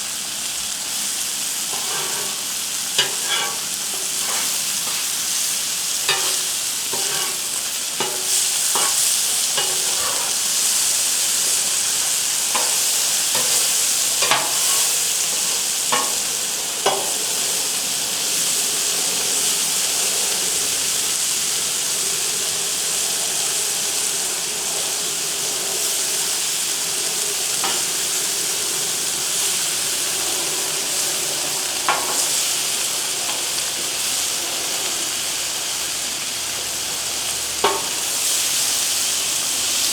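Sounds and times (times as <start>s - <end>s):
vegetables sizzling on a griddle: 0.0s - 39.9s.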